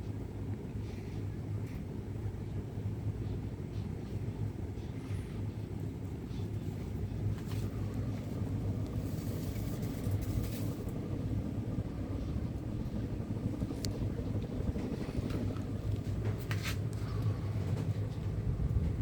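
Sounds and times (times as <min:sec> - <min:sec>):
ceiling fan humming: 0:00.0 - 0:19.0.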